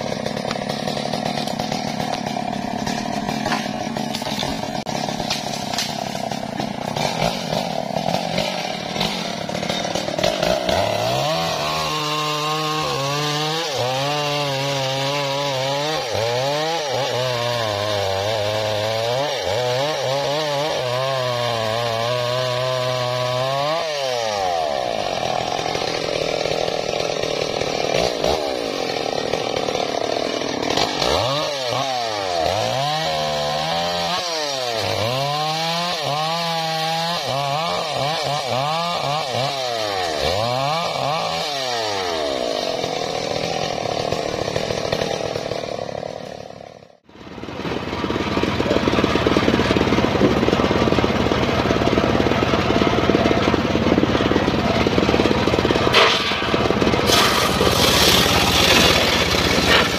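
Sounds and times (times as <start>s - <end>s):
chainsaw cutting a tree trunk: 0.0s - 59.9s.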